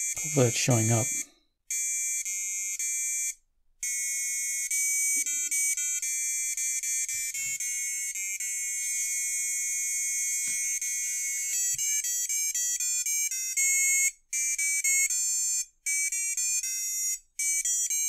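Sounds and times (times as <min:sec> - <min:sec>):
buzzer beeping electronic tune: 0:00.0 - 0:18.0.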